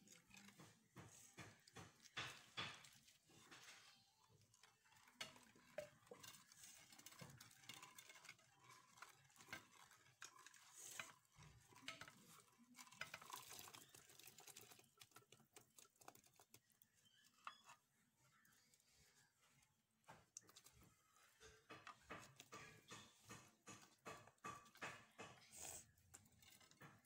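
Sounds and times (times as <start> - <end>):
ladle scraping clay pot: 0.0 - 27.0.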